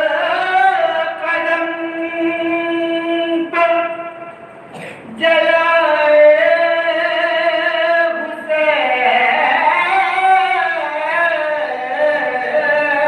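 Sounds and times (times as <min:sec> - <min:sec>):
young man chanting into microphone: 0:00.0 - 0:04.4, 0:05.0 - 0:13.0.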